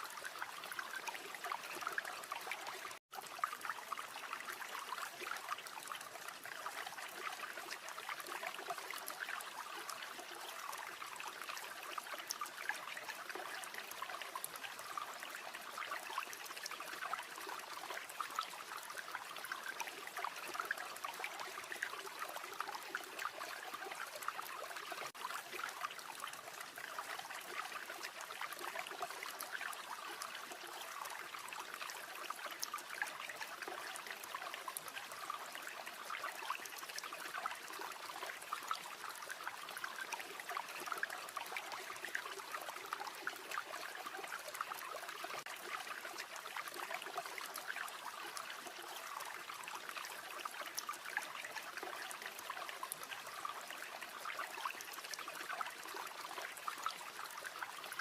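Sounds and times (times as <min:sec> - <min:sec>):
river water babbling: 0:00.0 - 0:58.0.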